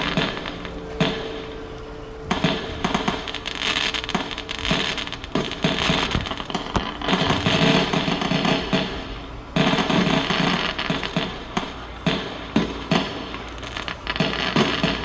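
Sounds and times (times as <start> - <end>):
background music: 0.0 - 15.0
fireworks low bangs: 0.0 - 15.0
fireworks crackling and popping: 2.3 - 15.0.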